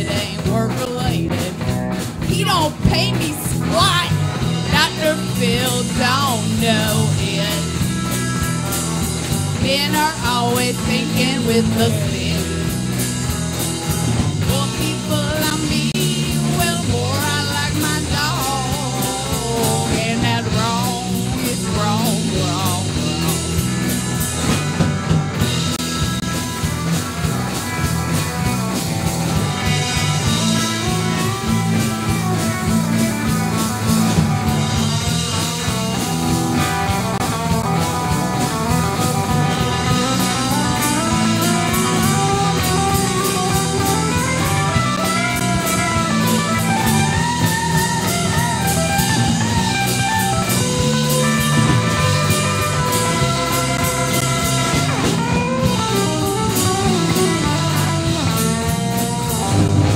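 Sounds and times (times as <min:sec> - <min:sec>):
electric guitar lead bending: 0:00.0 - 0:59.9
rock band instrumental: 0:00.0 - 0:59.9.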